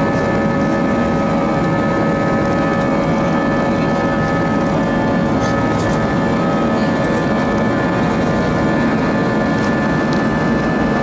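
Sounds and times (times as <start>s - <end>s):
jet engines rushing in cabin: 0.0s - 11.0s
steady engine whine: 0.0s - 11.0s.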